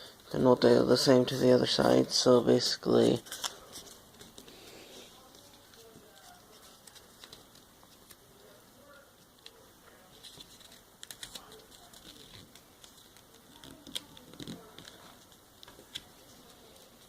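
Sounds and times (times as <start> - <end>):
paper rustling and crackling: 2.9 - 17.0.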